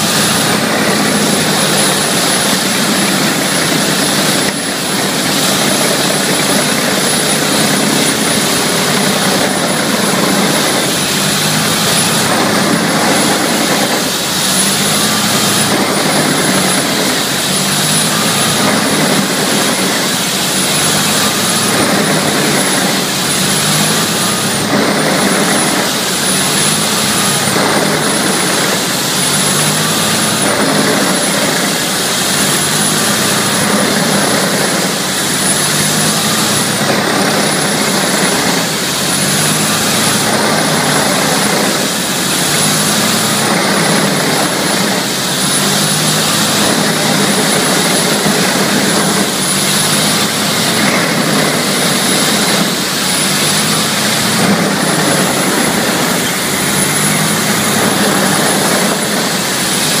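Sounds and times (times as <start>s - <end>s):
wood chipper roaring with high whine: 0.0s - 60.0s.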